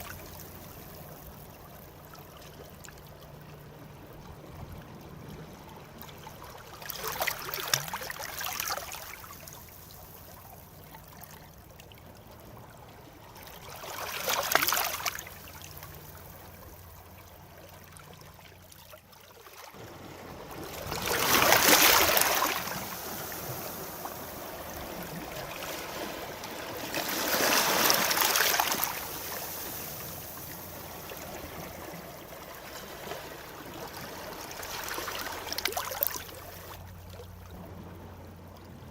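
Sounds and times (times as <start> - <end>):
sea waves breaking: 0.0 - 11.6, 12.2 - 38.9.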